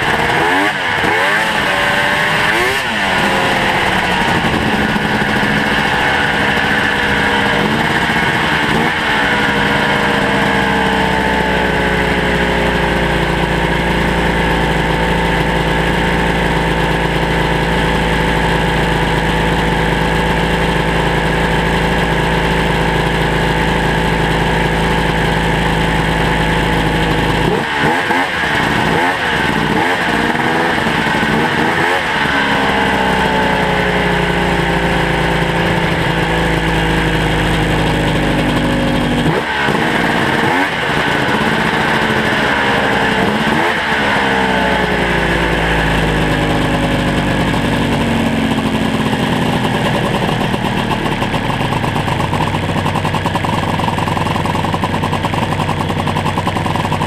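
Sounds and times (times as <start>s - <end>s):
engine throttle blips: 0.0s - 57.0s
snowmobile engine running: 0.0s - 57.0s.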